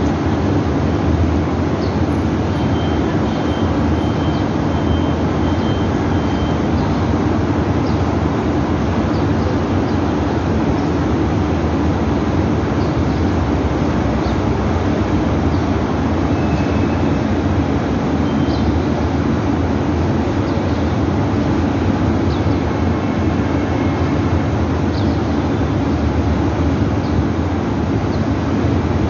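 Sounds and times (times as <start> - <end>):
loud low engine rumble: 0.0 - 29.0.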